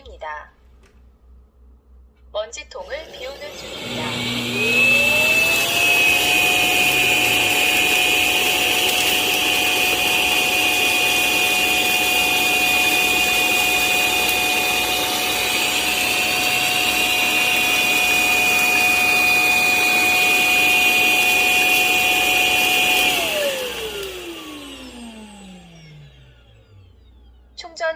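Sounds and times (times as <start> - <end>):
suction motor whining: 2.9 - 27.5.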